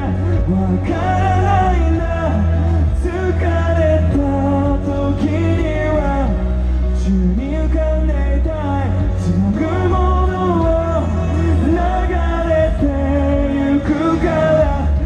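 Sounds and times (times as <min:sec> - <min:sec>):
amplified pop backing music: 0:00.0 - 0:15.0
man singing into microphone: 0:00.0 - 0:15.0.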